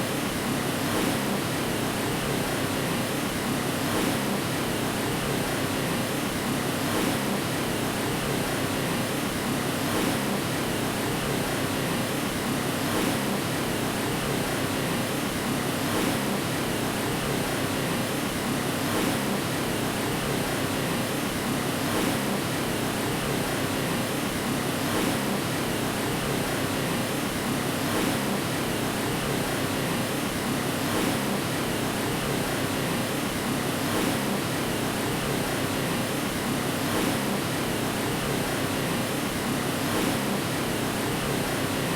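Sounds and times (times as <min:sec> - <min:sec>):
steady white noise: 0:00.0 - 0:41.9.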